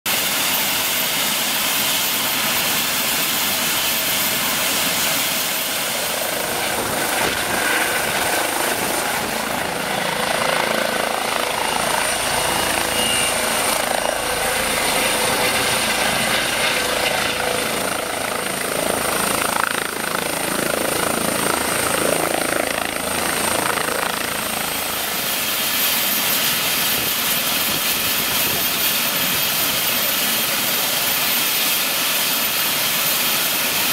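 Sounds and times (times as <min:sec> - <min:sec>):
helicopter turbines and rotors: 0:00.1 - 0:33.9.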